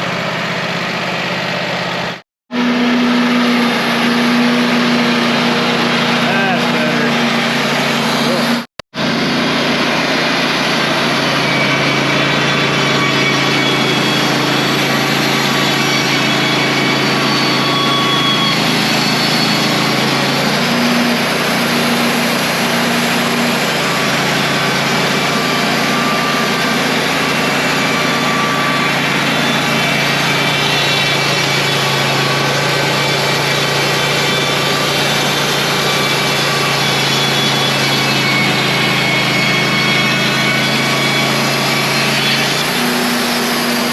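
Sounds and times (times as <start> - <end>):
band saw cutting: 0.0 - 43.9
sawmill engine humming: 0.0 - 43.9.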